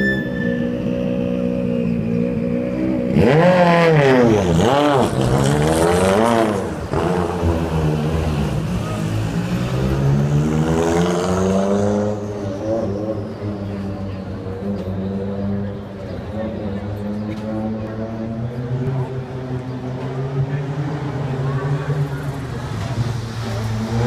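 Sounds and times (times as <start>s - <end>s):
rally car engine revving: 0.3s - 24.0s.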